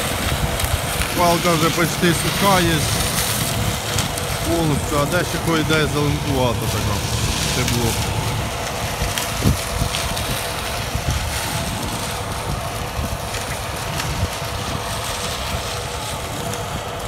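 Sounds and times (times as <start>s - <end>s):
distant combine harvester drone: 0.0s - 17.0s
wind buffeting microphone: 0.0s - 17.0s.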